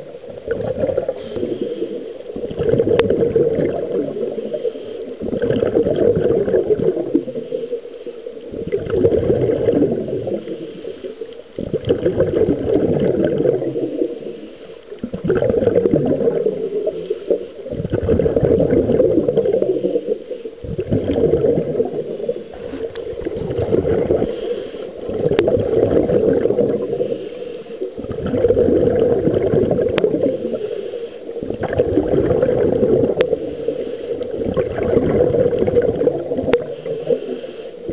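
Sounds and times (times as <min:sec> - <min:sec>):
underwater bubbles gurgling: 0:00.0 - 0:37.9.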